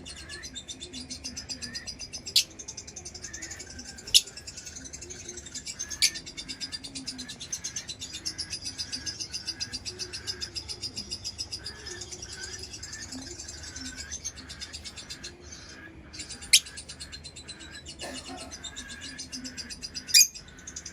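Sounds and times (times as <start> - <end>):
lovebirds chirping: 0.0 - 20.9.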